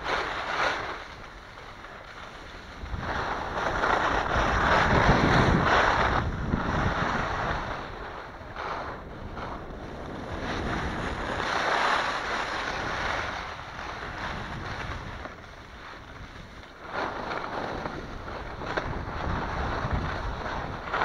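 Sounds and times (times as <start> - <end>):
snowboard scraping over snow: 0.0 - 21.0
wind on microphone: 2.5 - 21.0.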